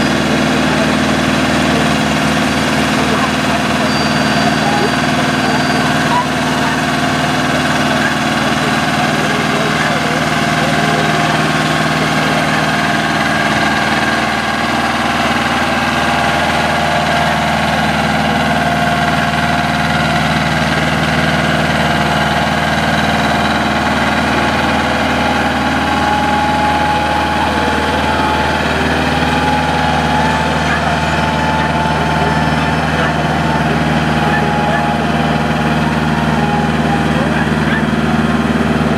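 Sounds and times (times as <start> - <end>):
diesel tractor engine under load: 0.0 - 38.9.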